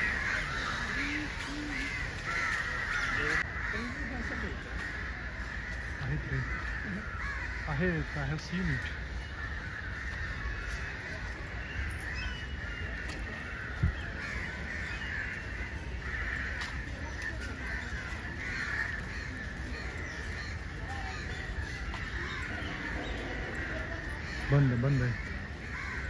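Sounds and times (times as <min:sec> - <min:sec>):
crows cawing: 0:00.0 - 0:26.0.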